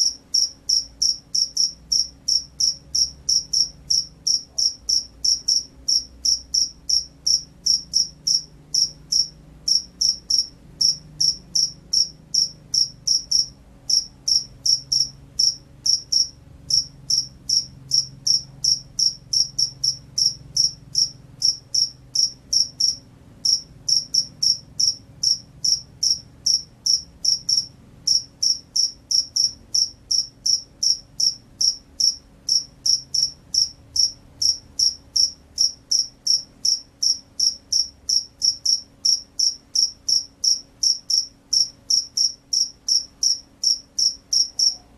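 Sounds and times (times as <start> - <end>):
cricket chirping: 0.0 - 44.9.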